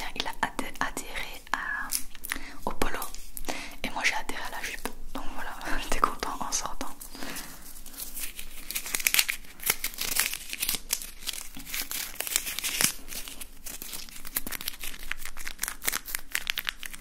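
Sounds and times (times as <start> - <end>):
paper crinkling between fingers: 0.1 - 3.4, 4.1 - 17.0.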